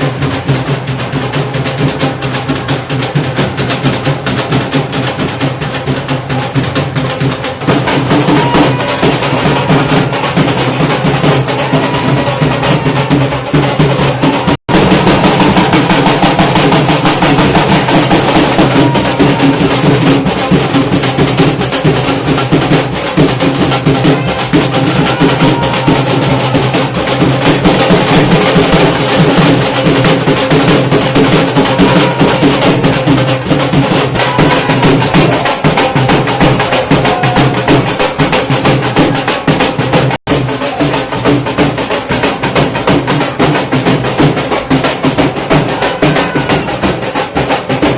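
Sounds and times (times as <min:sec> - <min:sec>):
loud drum-led percussion music: 0:00.0 - 0:47.9.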